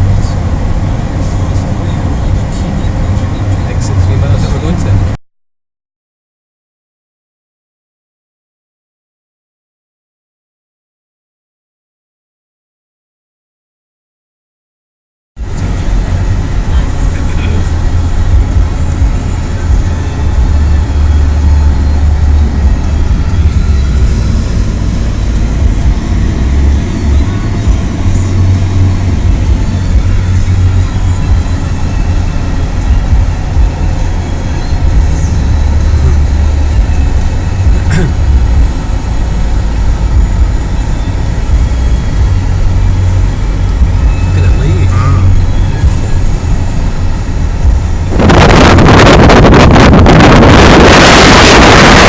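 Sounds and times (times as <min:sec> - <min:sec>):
car road and wind noise: 0:00.0 - 0:05.2, 0:15.4 - 0:52.0.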